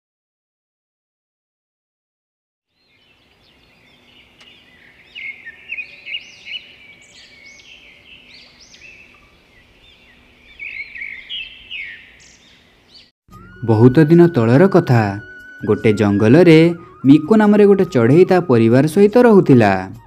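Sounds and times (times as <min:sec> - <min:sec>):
birds chirping: 0:02.7 - 0:20.0.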